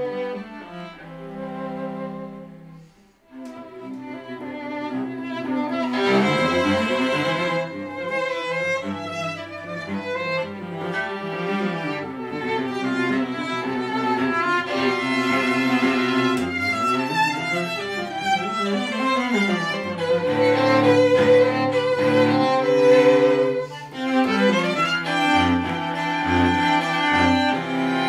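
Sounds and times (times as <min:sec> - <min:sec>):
violin and cello duo: 0:00.0 - 0:28.0.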